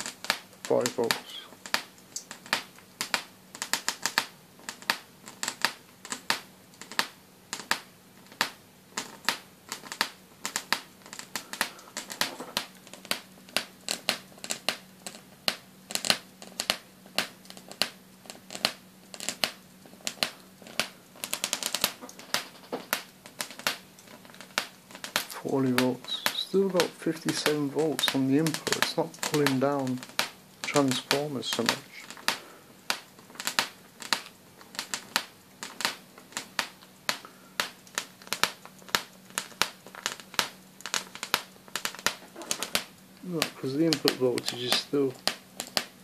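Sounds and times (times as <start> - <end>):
electric arc crackling snaps: 0.0 - 46.0
faint steady hum: 0.0 - 46.0.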